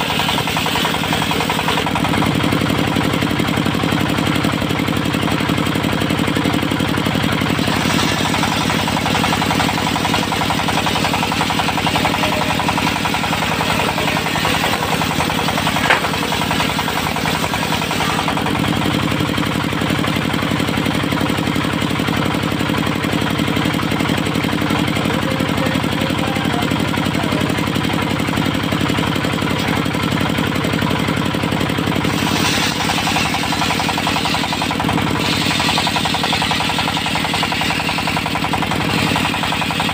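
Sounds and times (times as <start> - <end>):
circular sawmill cutting wood: 0.0 - 39.9.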